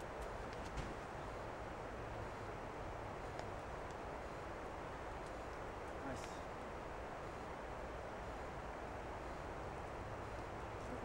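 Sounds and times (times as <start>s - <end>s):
outdoor ambience hiss: 0.0s - 11.0s.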